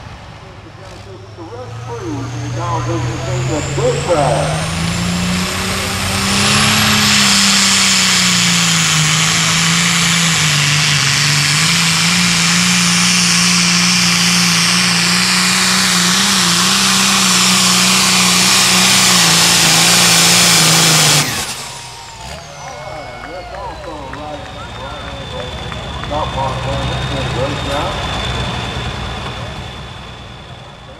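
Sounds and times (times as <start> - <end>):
diesel tractor engine droning: 0.0 - 30.9.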